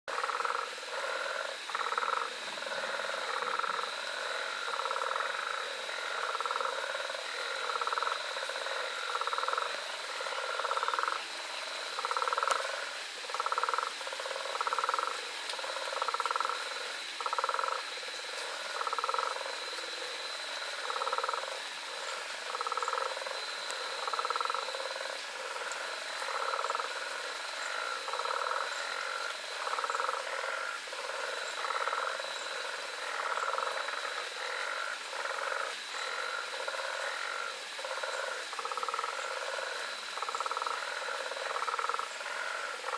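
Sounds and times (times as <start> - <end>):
frogs calling: 0.1 - 42.9.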